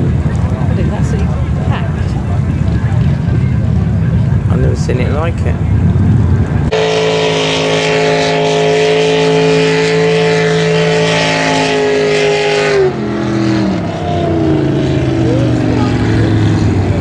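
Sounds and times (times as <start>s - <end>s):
speedboat engine at full throttle: 0.0s - 17.0s.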